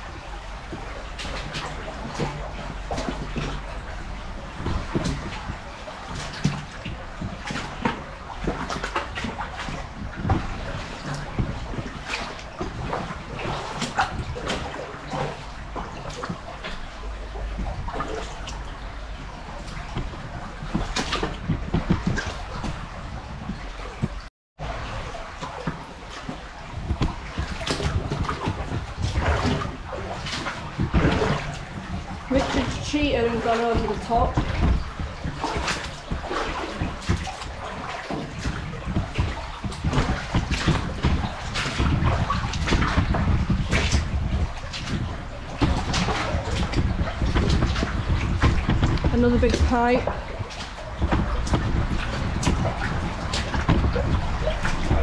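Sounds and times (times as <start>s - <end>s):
running water rushing: 0.0s - 55.0s
splashing footsteps in water: 0.0s - 55.0s.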